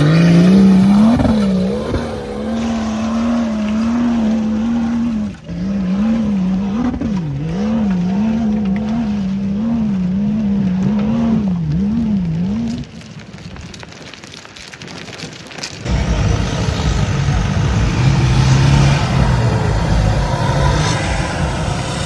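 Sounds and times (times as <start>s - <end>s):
vehicle engine revving: 0.0s - 13.0s, 15.9s - 22.0s.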